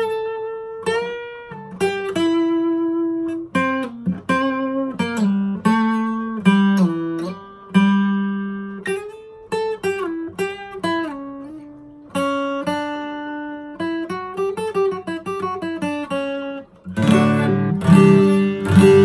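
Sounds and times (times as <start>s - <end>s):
fingerstyle acoustic guitar: 0.0s - 19.0s.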